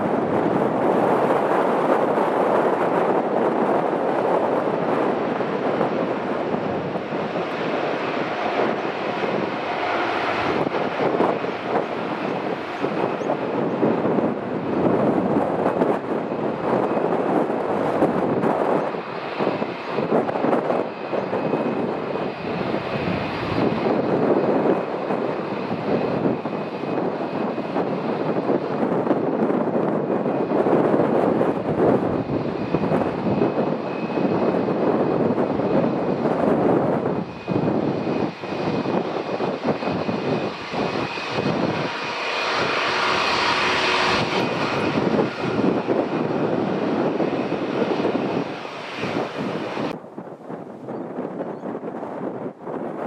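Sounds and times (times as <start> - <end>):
jet engines roaring: 0.0 - 53.0
wind buffeting microphone: 0.0 - 53.0.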